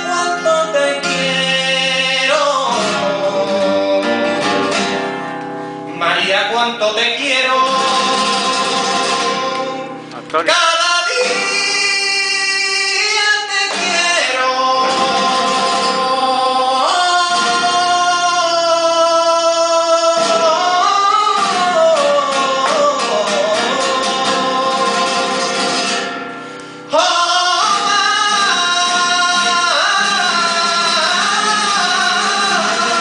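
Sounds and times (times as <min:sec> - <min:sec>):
flamenco guitar: 0:00.0 - 0:33.0
man singing flamenco: 0:00.0 - 0:33.0.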